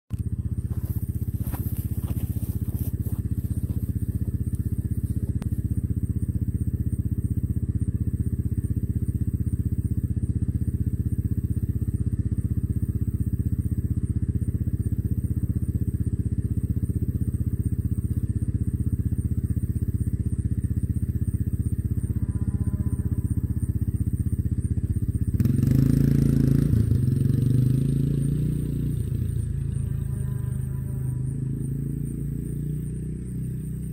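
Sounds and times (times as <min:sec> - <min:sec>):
quad bike engine idling: 0:00.1 - 0:33.9.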